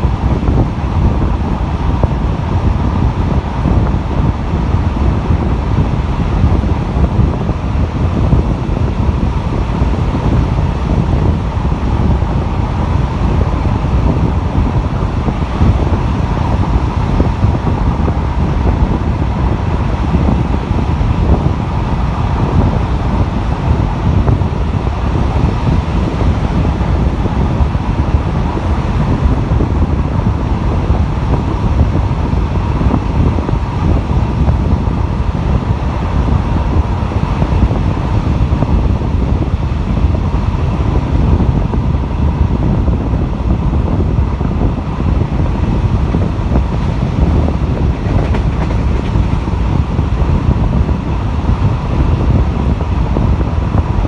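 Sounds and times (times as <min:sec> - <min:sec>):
train running noise: 0:00.0 - 0:54.0
wind rushing at window: 0:00.0 - 0:54.0.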